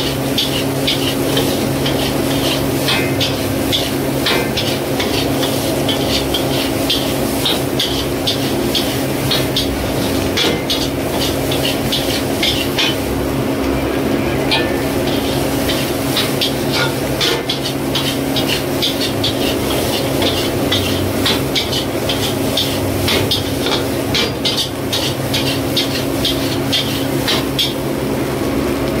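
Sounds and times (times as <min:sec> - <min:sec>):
metal spatula scraping wok: 0:00.0 - 0:13.2, 0:14.4 - 0:27.8.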